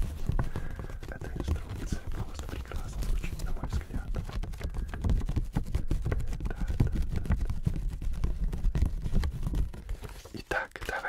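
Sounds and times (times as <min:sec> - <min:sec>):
hands tapping hard objects: 0:00.0 - 0:11.0.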